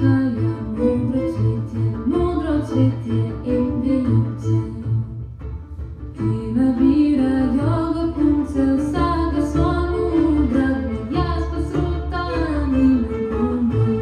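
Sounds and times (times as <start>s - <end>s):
gliding melodic notes: 0.0s - 14.0s.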